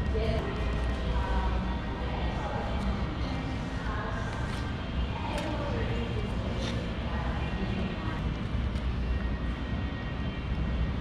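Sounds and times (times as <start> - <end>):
background music: 0.0 - 11.0
faint voices: 0.0 - 11.0.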